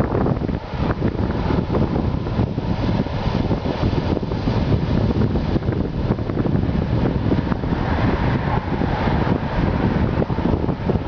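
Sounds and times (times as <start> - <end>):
farm machinery rumbling: 0.0 - 11.0.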